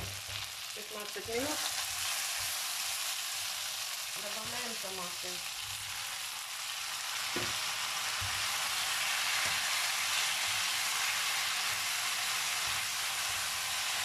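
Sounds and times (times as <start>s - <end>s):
tomatoes sizzling in oil: 0.0s - 14.0s.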